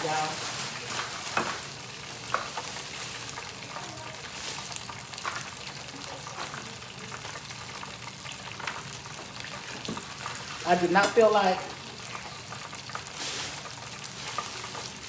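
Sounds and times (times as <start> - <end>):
oil crackles and pops: 0.0 - 15.0
oil sizzling in fryer: 0.0 - 15.0.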